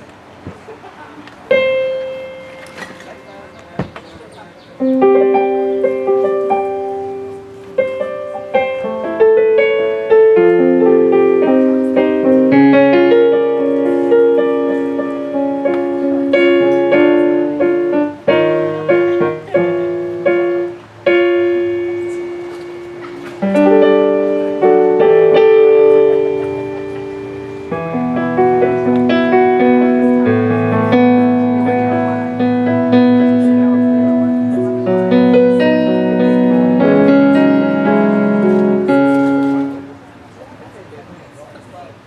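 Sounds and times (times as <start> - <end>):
piano chords and melody: 1.4 - 40.3.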